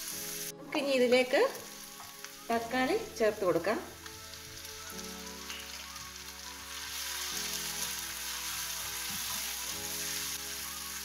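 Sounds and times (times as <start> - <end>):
soft background music: 0.0 - 11.0
vegetables sizzling in hot oil: 0.0 - 11.0.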